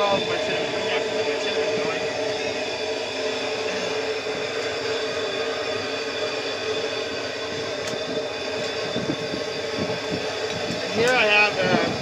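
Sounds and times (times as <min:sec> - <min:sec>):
gas burner rushing: 0:00.0 - 0:12.0
steady hums: 0:00.0 - 0:12.0.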